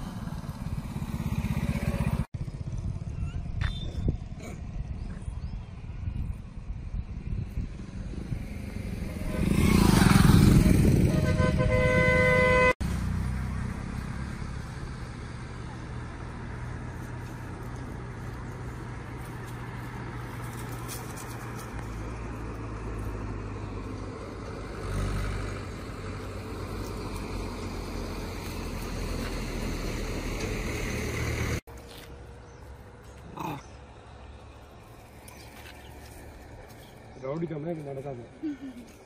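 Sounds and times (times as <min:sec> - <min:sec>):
traffic engine rumble: 0:00.0 - 0:39.0
vehicle passing: 0:07.1 - 0:39.0.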